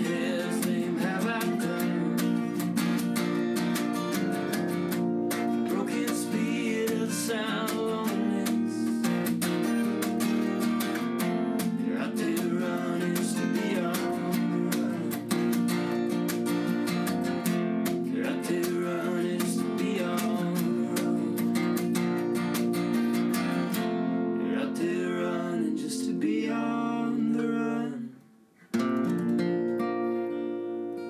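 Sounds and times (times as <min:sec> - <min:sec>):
acoustic guitar strumming: 0:00.0 - 0:25.5, 0:28.7 - 0:31.0.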